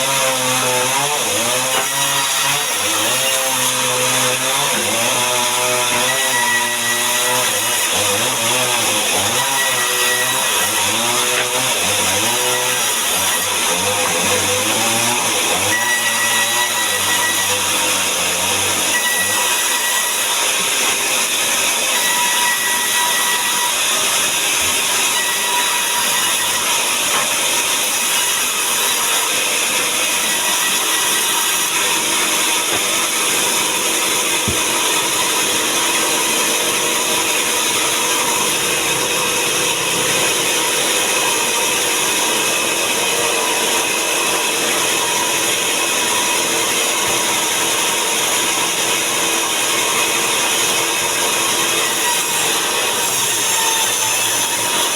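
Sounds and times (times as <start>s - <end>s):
power saw cutting timber: 0.0s - 54.9s.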